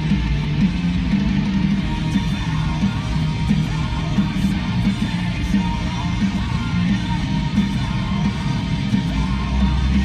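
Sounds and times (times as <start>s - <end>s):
bass line: 0.0s - 10.0s
strummed guitar: 0.0s - 10.0s.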